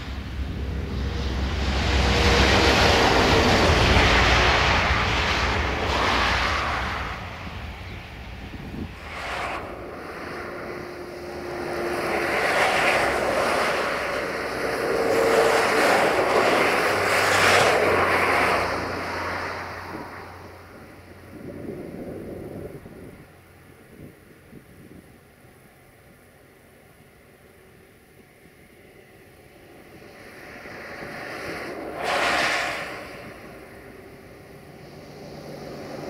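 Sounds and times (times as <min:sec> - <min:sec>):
combine harvester running: 0:00.0 - 0:36.0
jet engines roaring overhead: 0:00.0 - 0:36.0.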